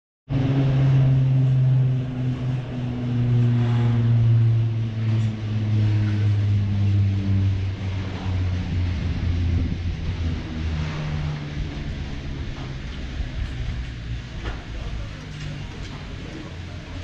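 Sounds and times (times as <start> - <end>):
cable car machinery humming: 0.3 - 17.0.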